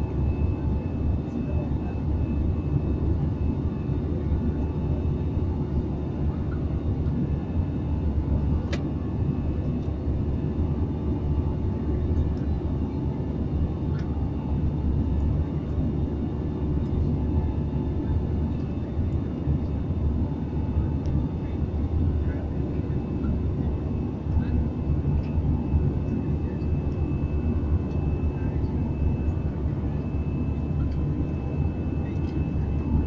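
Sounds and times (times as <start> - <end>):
airliner cabin engine drone: 0.0 - 33.0.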